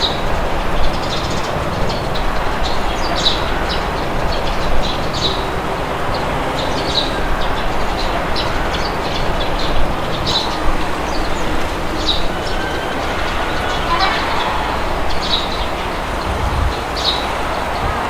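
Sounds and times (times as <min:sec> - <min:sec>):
rushing wind: 0:00.0 - 0:18.0
small birds chirping: 0:00.0 - 0:18.0.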